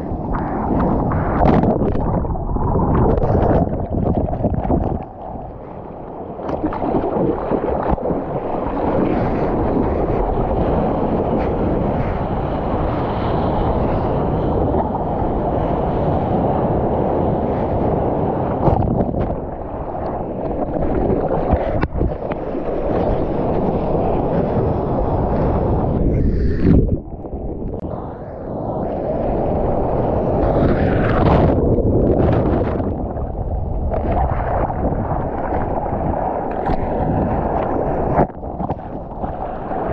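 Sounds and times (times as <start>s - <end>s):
sea water rushing and splashing: 0.0s - 39.9s
wind buffeting microphone: 0.0s - 39.9s.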